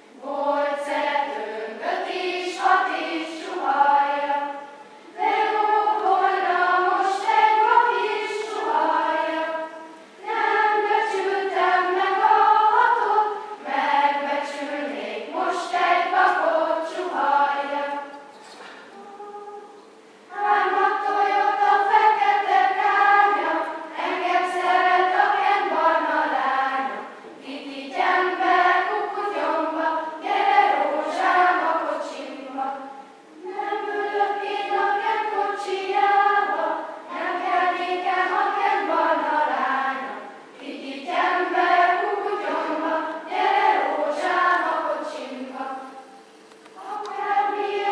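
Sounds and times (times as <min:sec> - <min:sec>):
children's choir singing: 0:00.0 - 0:47.9.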